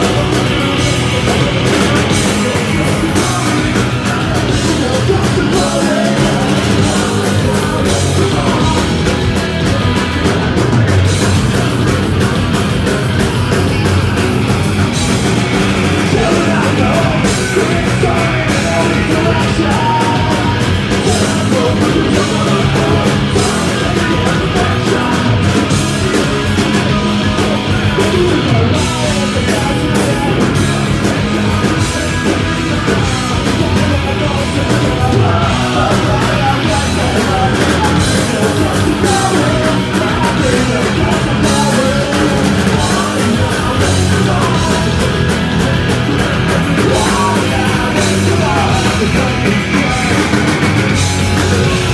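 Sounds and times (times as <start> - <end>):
punk rock band playing: 0.0 - 51.9
shouted lead vocal: 0.0 - 51.9.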